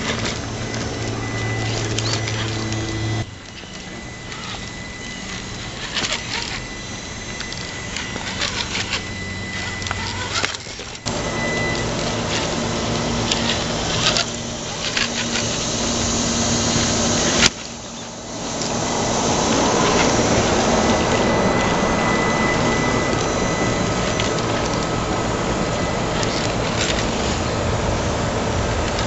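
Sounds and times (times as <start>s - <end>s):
tyres scraping on stone: 0.0s - 27.6s
electric motor whining: 0.0s - 29.0s.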